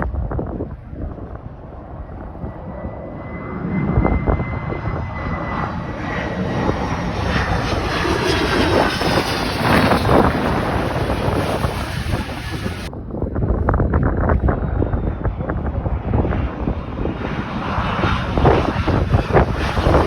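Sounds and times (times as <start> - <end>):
airplane engines with whine: 0.0 - 20.0
wind buffeting microphone: 0.0 - 20.0.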